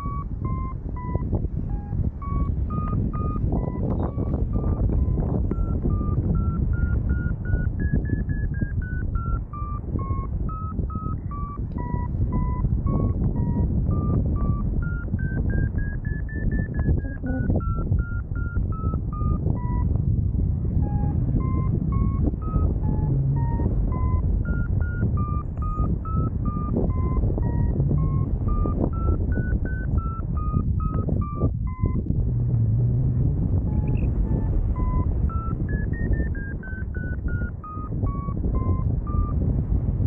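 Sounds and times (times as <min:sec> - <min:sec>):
variometer beeping: 0:00.0 - 0:40.0
wind rush on microphone: 0:00.0 - 0:40.0.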